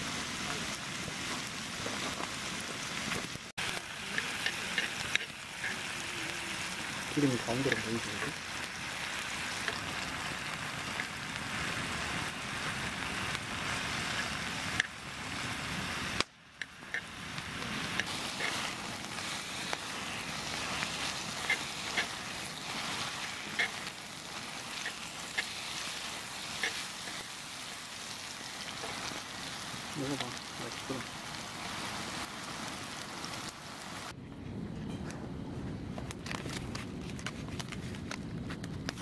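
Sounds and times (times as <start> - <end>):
meat sizzling on a griddle: 0.0 - 34.1.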